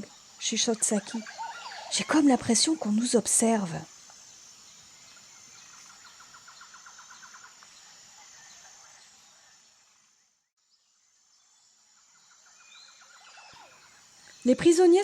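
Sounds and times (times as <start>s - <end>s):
birds chirping: 0.0s - 15.0s
insect buzz: 0.0s - 15.0s.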